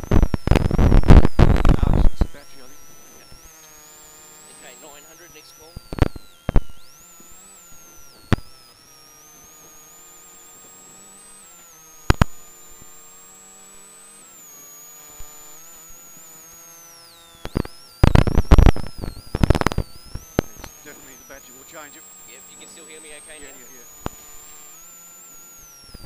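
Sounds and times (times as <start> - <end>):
electrical hum: 0.0 - 26.0
high wavering interference whine: 0.0 - 26.0
radio crackles: 0.0 - 26.0.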